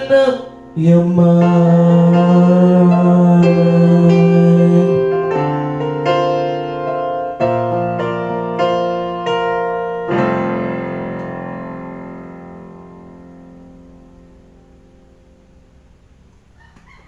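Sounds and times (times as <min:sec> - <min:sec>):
pop ballad on keyboard: 0:00.0 - 0:14.4.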